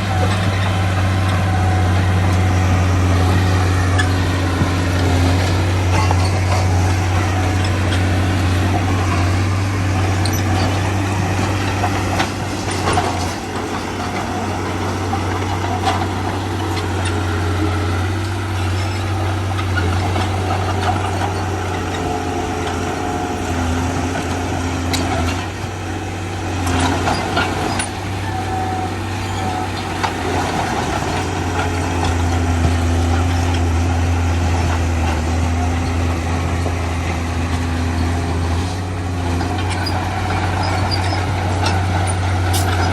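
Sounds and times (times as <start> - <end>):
heavy diesel machinery engine drone: 0.0 - 42.9.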